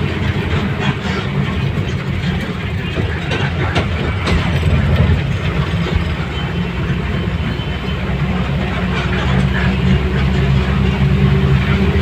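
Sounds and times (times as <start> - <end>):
large engine rumbling: 0.0 - 12.0.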